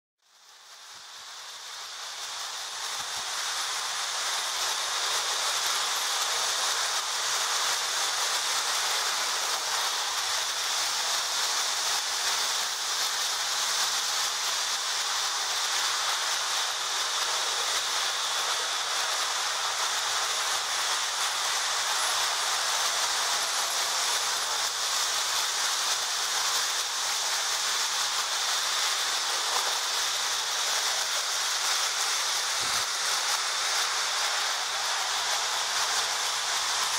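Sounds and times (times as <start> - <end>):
toy trains whirring: 0.2 - 36.9.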